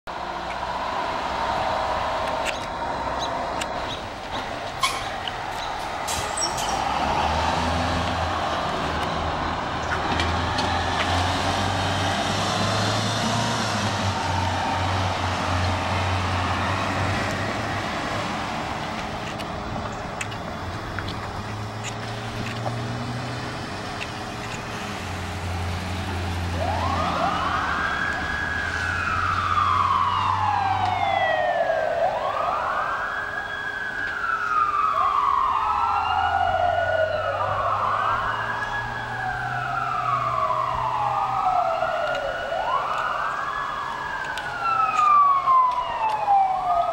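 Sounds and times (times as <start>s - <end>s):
fire engine diesel engine rumbling: 0.1s - 46.9s
sirens wailing: 0.1s - 46.9s.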